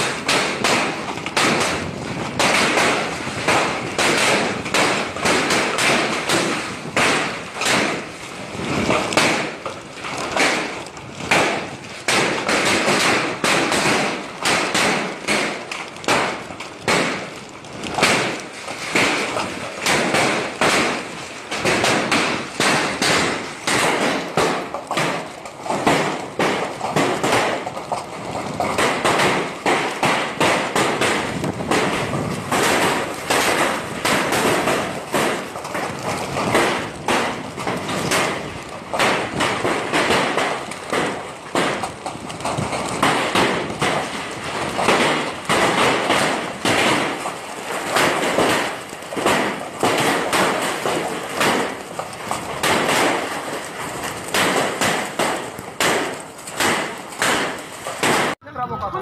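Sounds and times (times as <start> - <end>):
hailstones thudding: 0.0 - 58.4.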